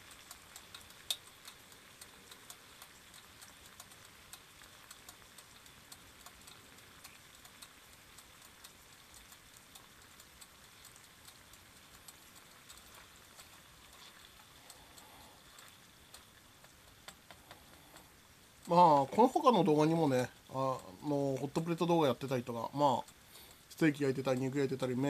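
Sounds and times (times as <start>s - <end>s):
fat popping and crackling: 0.0s - 25.0s
meat sizzling on a hot plate: 0.0s - 25.0s.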